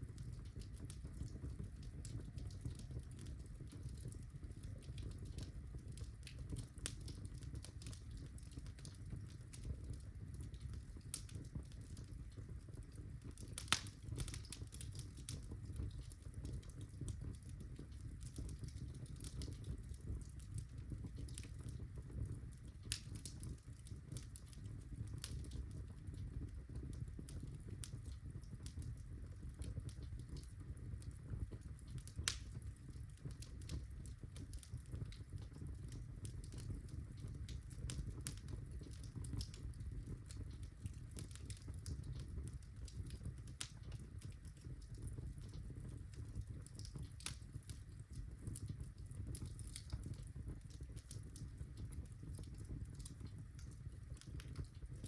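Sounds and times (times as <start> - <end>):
burning logs crackling and popping: 0.0 - 55.0
low rumble of flame: 0.0 - 55.0.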